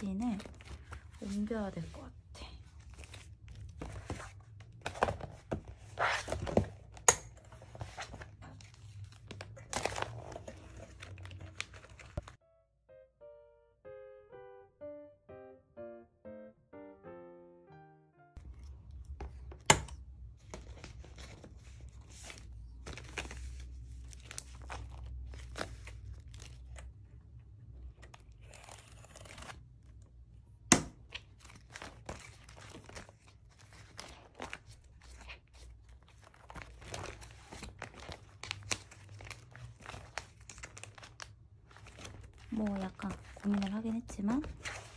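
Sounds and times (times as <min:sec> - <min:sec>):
plastic sleeves rustling and crinkling: 0:00.0 - 0:12.4, 0:18.4 - 0:30.4, 0:31.0 - 0:44.9.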